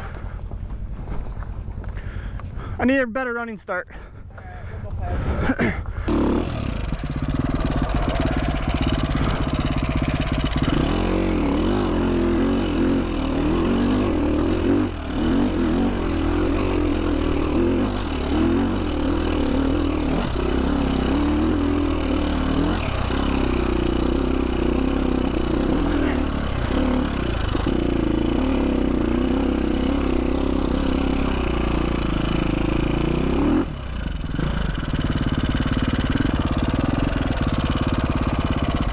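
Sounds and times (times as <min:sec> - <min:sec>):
dirt bike engine revving: 0:05.6 - 0:38.9.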